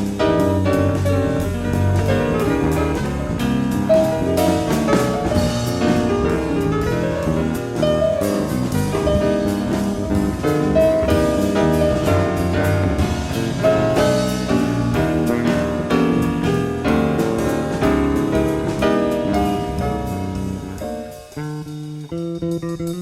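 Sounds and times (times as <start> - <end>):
jazz piano trio playing: 0.0 - 23.0.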